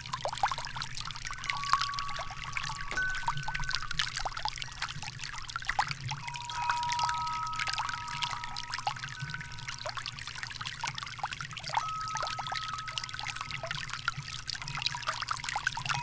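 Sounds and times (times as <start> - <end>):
thin steady tone: 0.0 - 16.0
water trickling and splashing: 0.0 - 16.0.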